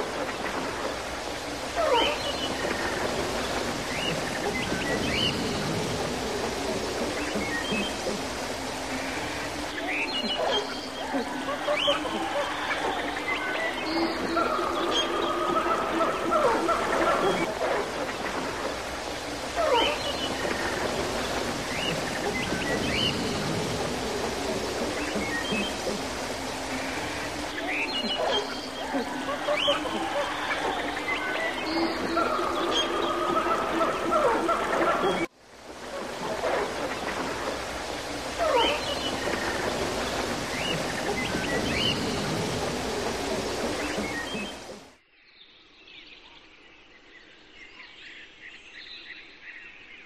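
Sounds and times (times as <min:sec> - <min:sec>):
rushing outdoor background noise: 0:00.0 - 0:45.0.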